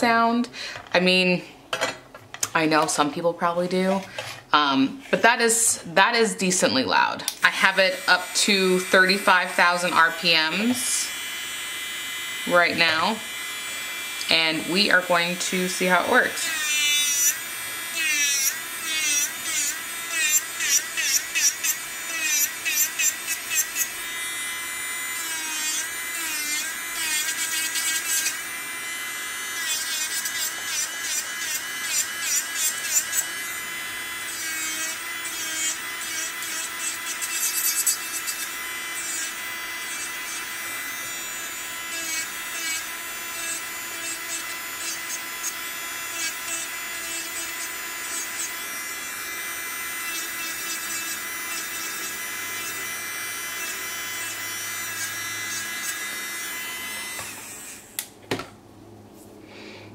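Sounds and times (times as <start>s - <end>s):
electric nail file whine: 2.7s - 58.1s.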